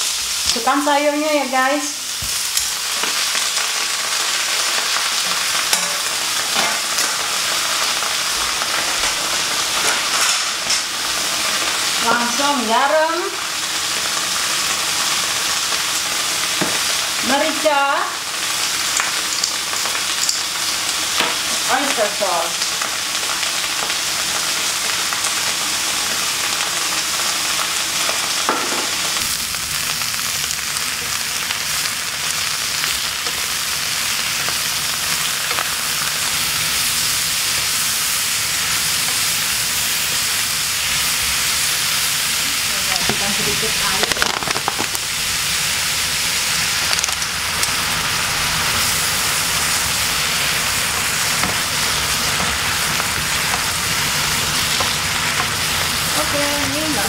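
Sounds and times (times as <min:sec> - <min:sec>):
food sizzling in frying pan: 0:00.0 - 0:57.0.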